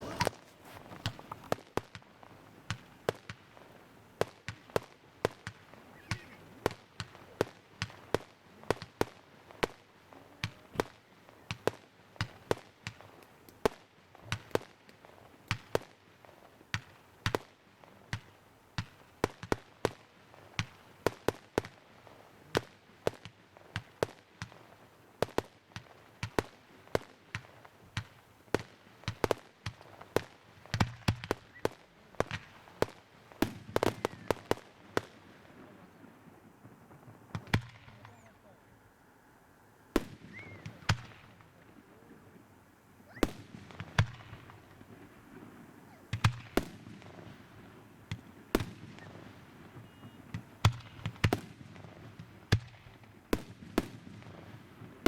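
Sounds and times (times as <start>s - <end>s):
fireworks bangs and pops: 0.0s - 38.5s, 39.9s - 42.4s, 43.1s - 55.0s.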